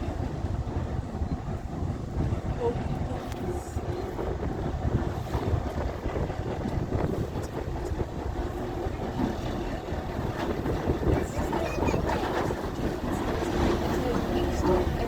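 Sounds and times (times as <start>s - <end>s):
train clicks: 0.0s - 15.0s
train rumbling: 0.0s - 15.0s.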